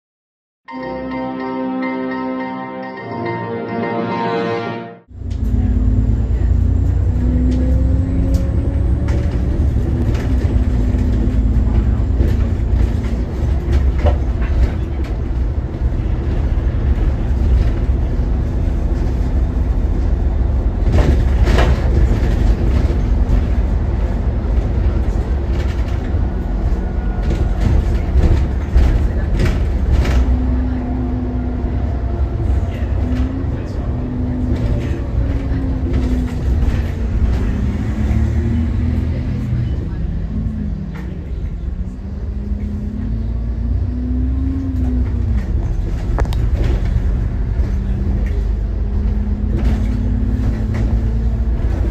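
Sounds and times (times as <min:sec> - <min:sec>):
bus engine and road rumble: 0:05.0 - 0:51.9.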